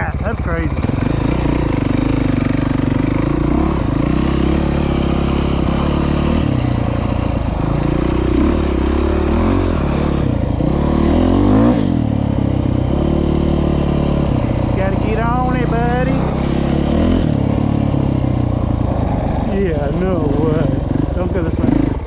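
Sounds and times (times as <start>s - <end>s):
off-road motorcycle engine revving: 0.0s - 22.0s.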